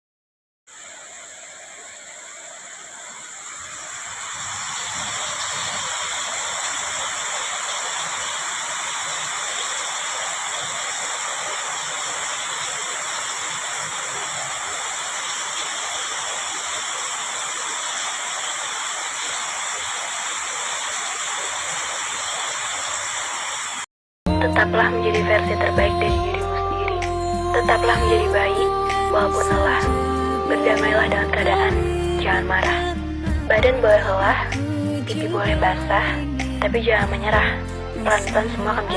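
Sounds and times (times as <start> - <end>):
heavy rain pouring: 0.7 - 23.9, 26.9 - 38.9.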